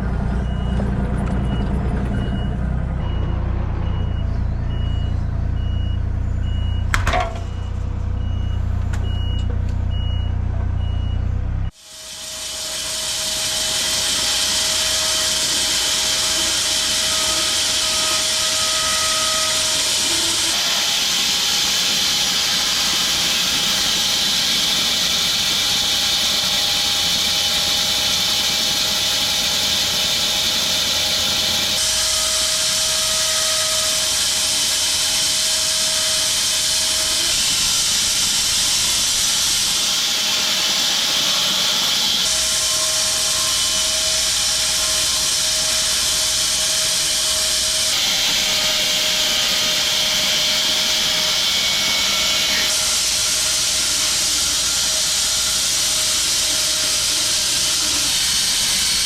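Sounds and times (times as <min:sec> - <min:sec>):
bandsaw cutting log: 0:11.7 - 0:59.0.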